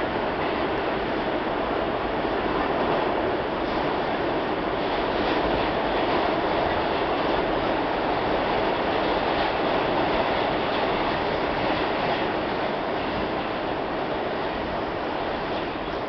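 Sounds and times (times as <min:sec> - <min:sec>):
subway train wheels on rail: 0:00.0 - 0:16.0.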